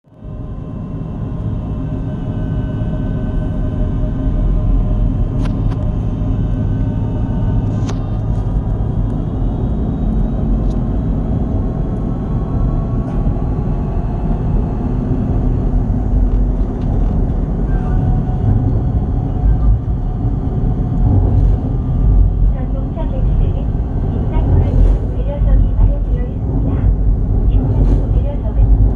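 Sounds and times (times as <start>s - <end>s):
train wheels rumbling on track: 4.0s - 28.9s.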